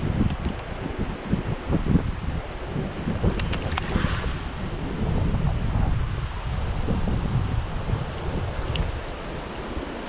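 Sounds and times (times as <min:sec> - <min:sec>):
steady rushing hiss: 0:00.0 - 0:10.0
wind buffeting microphone: 0:00.0 - 0:10.0.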